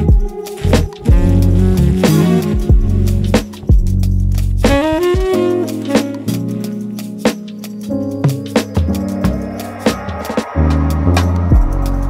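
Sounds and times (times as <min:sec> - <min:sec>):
instrumental music with drums and bass: 0:00.0 - 0:12.0.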